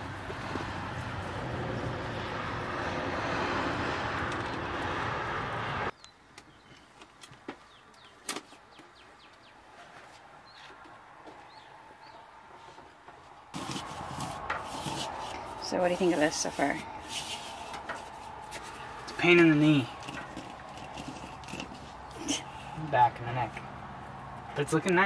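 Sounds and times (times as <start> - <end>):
loud outdoor noise on microphone: 0.0 - 25.0.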